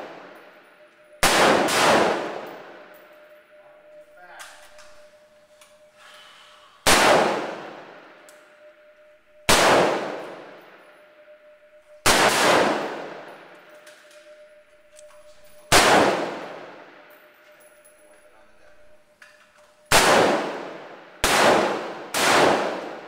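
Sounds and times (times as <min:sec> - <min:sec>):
rifle shots echoing indoors: 0:00.0 - 0:05.9, 0:06.8 - 0:23.0
faint steady hum: 0:00.0 - 0:23.0.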